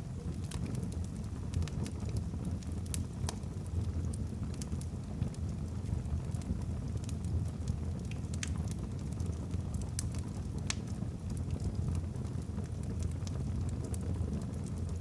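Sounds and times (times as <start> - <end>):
wood fire crackling in fireplace: 0.0 - 15.0.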